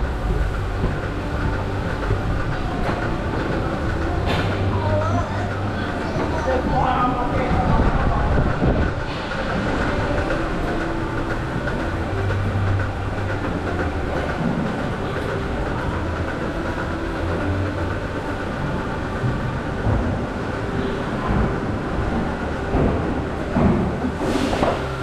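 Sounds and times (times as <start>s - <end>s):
milking machinery rumbling: 0.0s - 25.0s.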